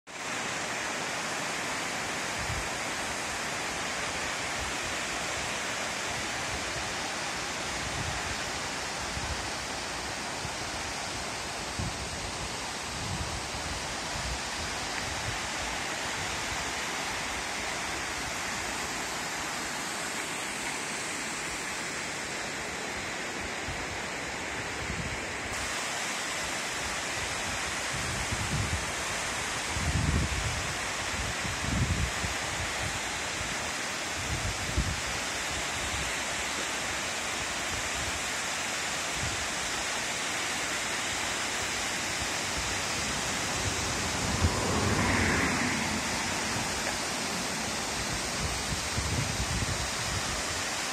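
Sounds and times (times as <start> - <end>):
waterfall rushing: 0.1 - 50.9.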